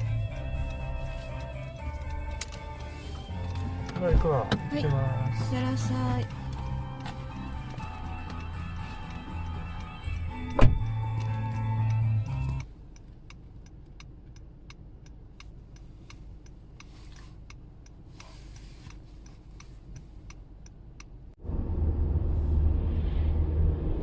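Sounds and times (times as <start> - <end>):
turn signal ticking: 0.0 - 21.4
engine and road rumble: 0.0 - 24.0.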